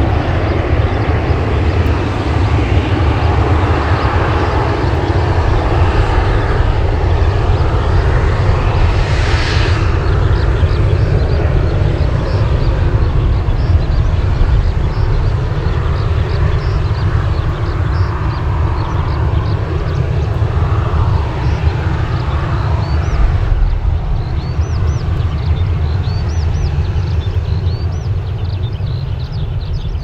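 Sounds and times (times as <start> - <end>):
jet engines roaring: 0.0 - 30.0
small birds chirping: 0.0 - 30.0.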